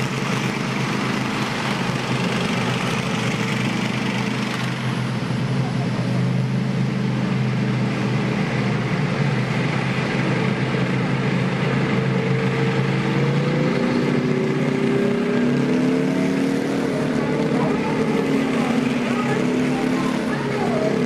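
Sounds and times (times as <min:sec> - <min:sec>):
engine revving: 0:00.0 - 0:21.0
tank engines droning: 0:00.0 - 0:21.0.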